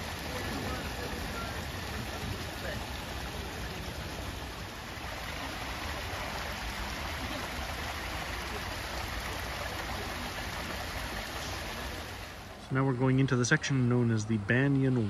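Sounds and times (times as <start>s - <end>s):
rushing hiss of water: 0.0s - 12.6s.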